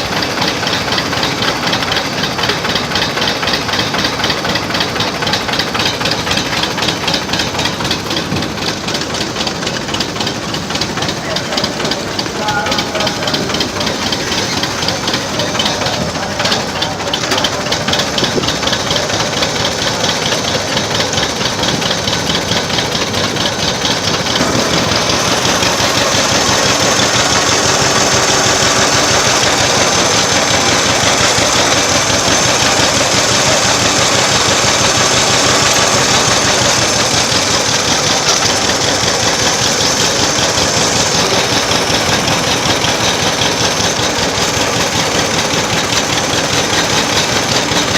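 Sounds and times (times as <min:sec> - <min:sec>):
old tractor engine running: 0:00.0 - 0:47.9.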